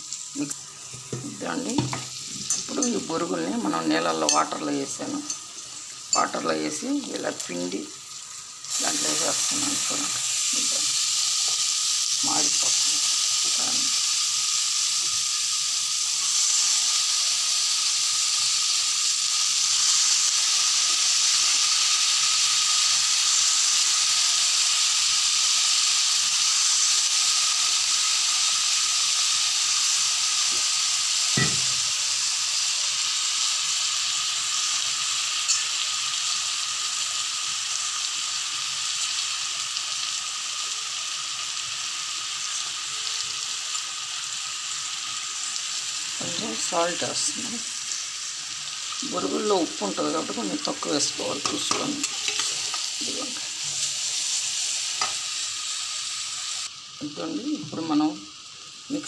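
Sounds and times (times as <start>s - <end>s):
puffed rice sizzling in oil: 0.0s - 59.0s.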